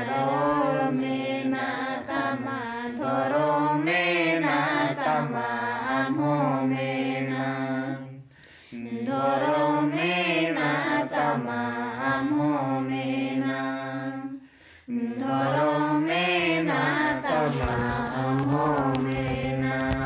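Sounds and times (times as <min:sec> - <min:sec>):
group singing a slow song: 0:00.0 - 0:20.0.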